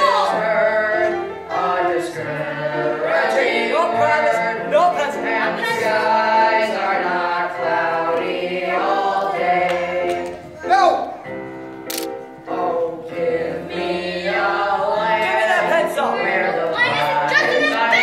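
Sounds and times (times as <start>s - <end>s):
group singing a show tune: 0.0s - 10.6s, 12.0s - 18.0s.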